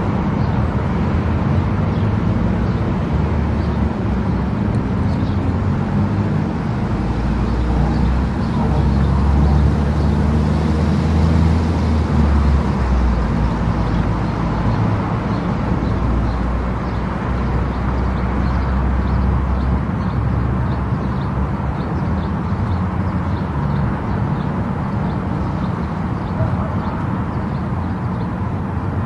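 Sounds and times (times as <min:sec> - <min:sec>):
road and tyre noise: 0:00.0 - 0:29.0.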